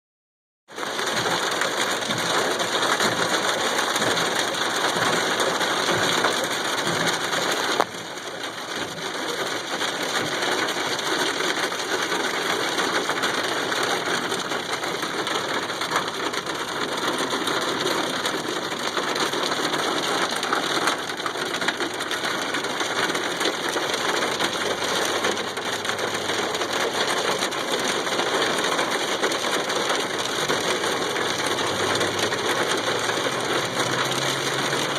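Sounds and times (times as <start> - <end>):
car engine running: 0.8 - 34.9
snow pelting a car: 0.8 - 34.9.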